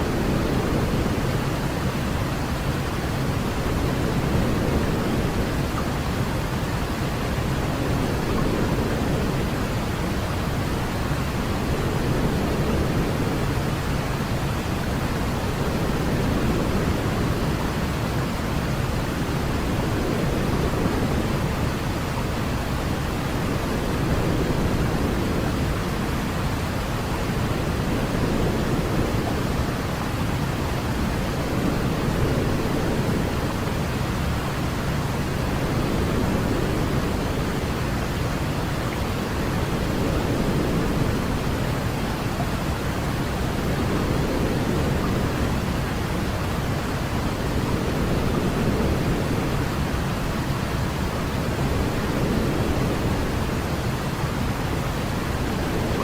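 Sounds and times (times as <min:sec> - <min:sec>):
deep white noise hiss: 0:00.0 - 0:56.0.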